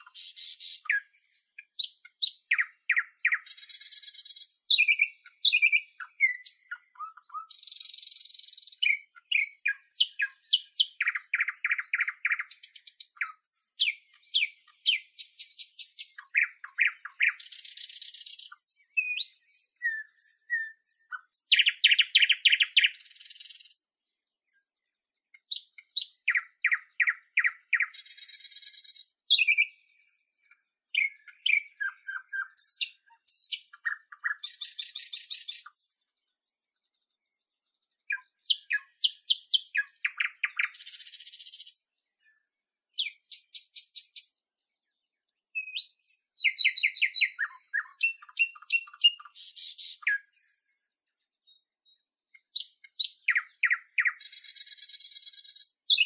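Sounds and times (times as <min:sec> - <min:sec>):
nightingale singing: 0:00.0 - 0:56.0.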